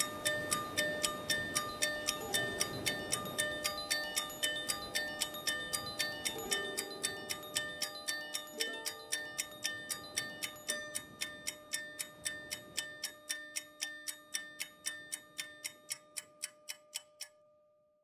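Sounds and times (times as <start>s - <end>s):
clock-like ticking: 0.0s - 17.4s.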